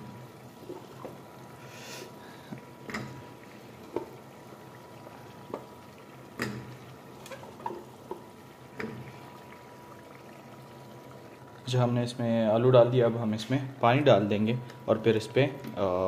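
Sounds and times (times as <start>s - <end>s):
sauce bubbling: 0.0s - 15.0s.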